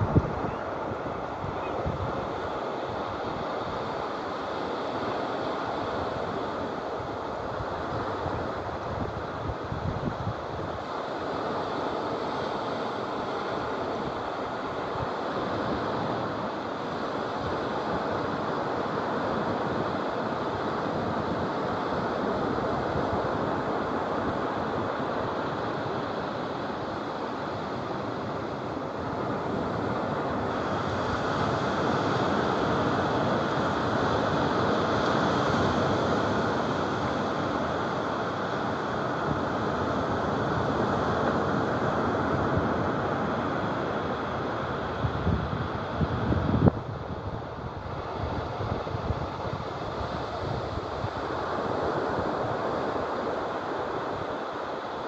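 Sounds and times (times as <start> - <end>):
surf breaking on beach: 0.0 - 55.0.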